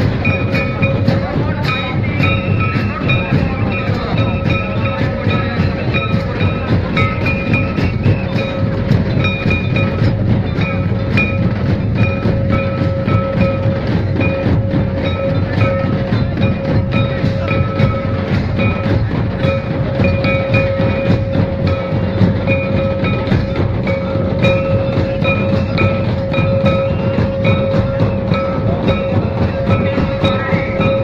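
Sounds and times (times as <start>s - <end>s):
fast dense drumming: 0.0s - 31.0s.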